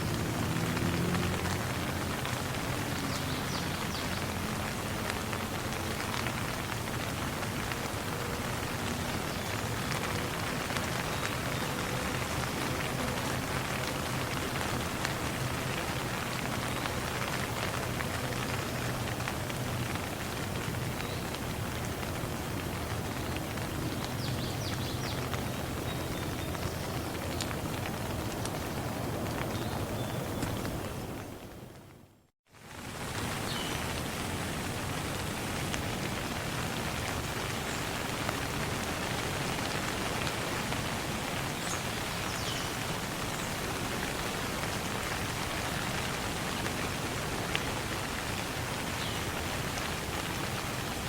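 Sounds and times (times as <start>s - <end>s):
rain drops ticking on hard surface: 0.0s - 51.0s.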